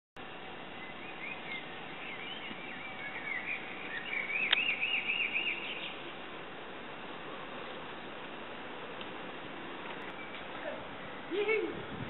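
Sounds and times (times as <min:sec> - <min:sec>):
songbird singing: 0:00.2 - 0:11.8
steady hiss: 0:00.2 - 0:12.0.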